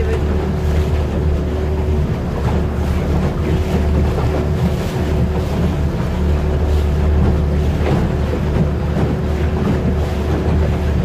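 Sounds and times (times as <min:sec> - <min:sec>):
motorboat engine drone: 0:00.0 - 0:11.0
water rushing: 0:00.0 - 0:11.0.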